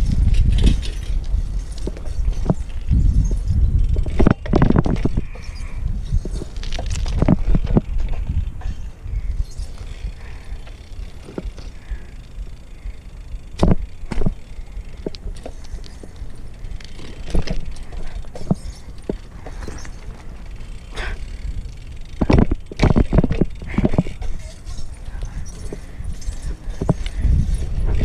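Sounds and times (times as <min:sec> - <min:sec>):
bike knocking and clattering: 0:00.0 - 0:28.0
bike tyres rolling on concrete: 0:00.0 - 0:28.0.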